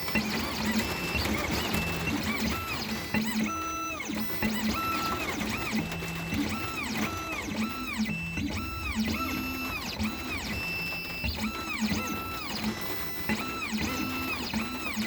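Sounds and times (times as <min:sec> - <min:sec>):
stepper motor whines: 0:00.0 - 0:15.0.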